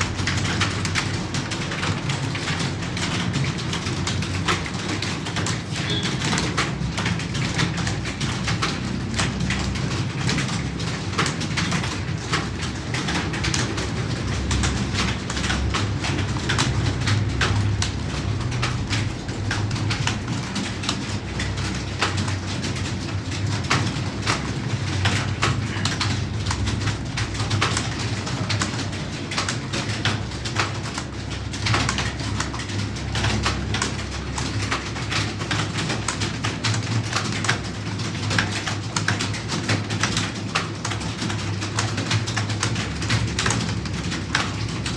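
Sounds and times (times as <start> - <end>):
fast typing on keyboard: 0.0 - 44.9.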